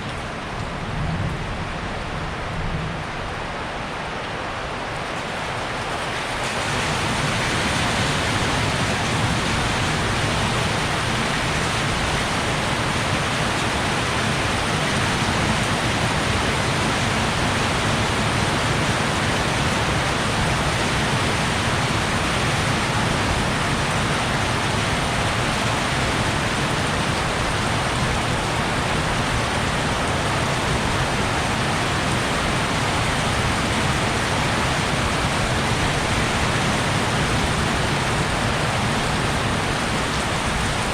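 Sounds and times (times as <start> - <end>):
heavy rain downpour: 0.0 - 40.9.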